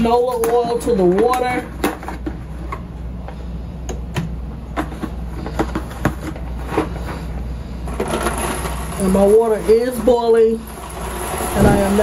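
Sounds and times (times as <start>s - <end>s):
pot boiling steady hum: 0.0s - 12.0s.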